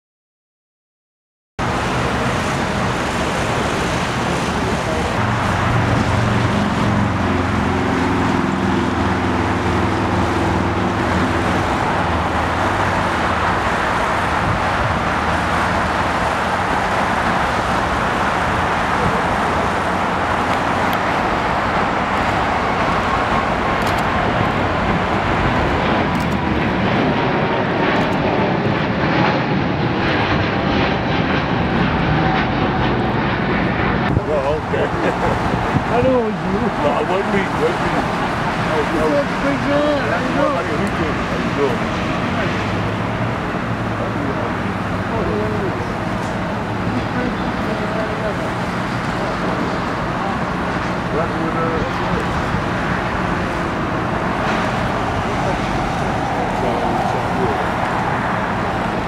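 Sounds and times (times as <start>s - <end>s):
jet engine roar: 1.6s - 59.0s.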